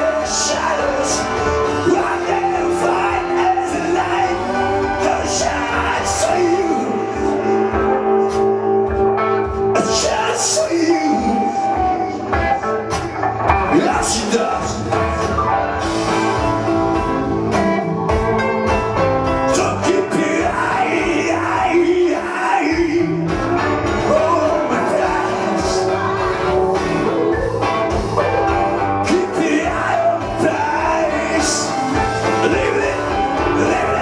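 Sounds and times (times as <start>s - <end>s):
man singing live: 0.0s - 8.7s, 9.4s - 34.0s
backing track with drum beat: 0.0s - 34.0s.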